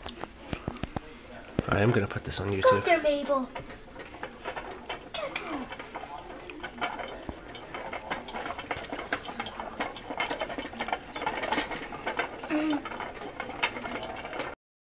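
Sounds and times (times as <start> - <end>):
hamster wheel clattering: 0.0 - 14.6.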